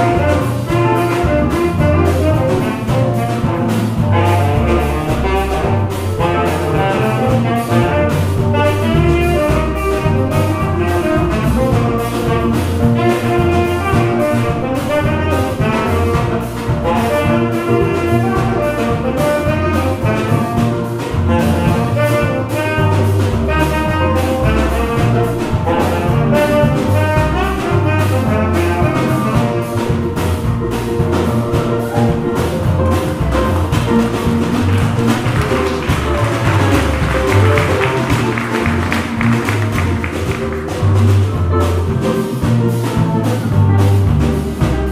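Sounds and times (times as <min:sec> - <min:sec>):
tenor saxophone melody: 0:00.0 - 0:42.4
drum kit beat: 0:00.0 - 0:44.9
electric bass: 0:00.0 - 0:44.9
guitar: 0:00.0 - 0:44.9.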